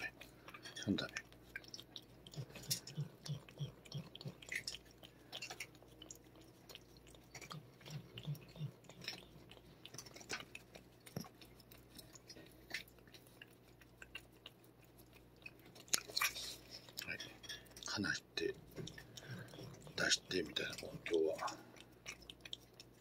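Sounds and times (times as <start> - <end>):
cat licking and chewing: 0.0 - 23.0.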